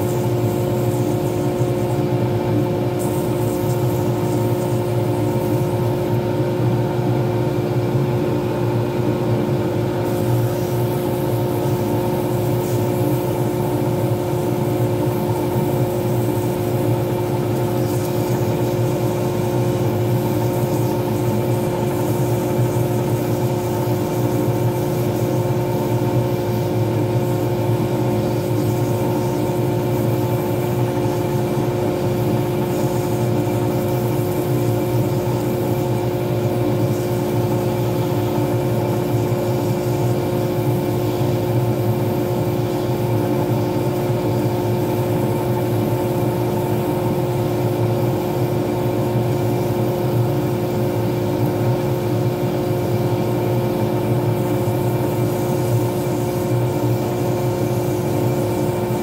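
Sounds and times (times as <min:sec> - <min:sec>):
sanding pad rubbing hiss: 0:00.0 - 0:06.1, 0:10.0 - 0:59.0
lathe motor whine and hum: 0:00.0 - 0:59.0.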